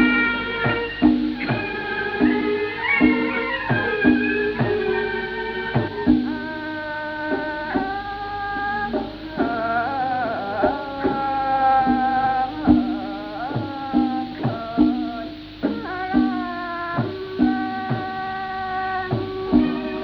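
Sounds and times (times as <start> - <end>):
drum strokes: 0.0 - 20.0
plucked strings: 0.0 - 20.0
traditional ensemble playing: 0.0 - 20.0.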